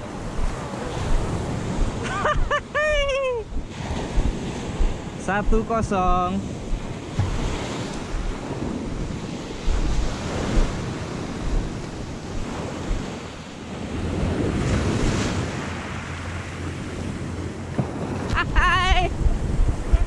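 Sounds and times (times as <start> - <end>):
sea waves washing in surf: 0.0 - 20.0
wind buffeting microphone: 0.0 - 20.0.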